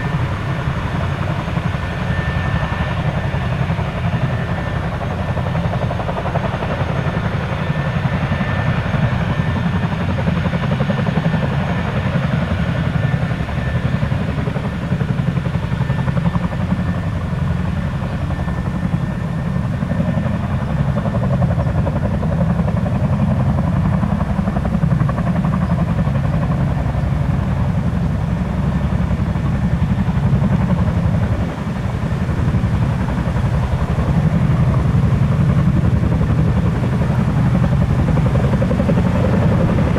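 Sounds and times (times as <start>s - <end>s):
helicopter rotor chop: 0.0s - 39.9s
high turbine whine: 0.0s - 39.9s.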